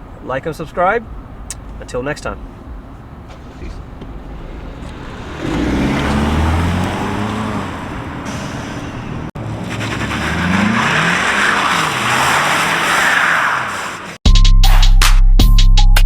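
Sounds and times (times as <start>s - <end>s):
car engine revving: 1.0s - 14.2s.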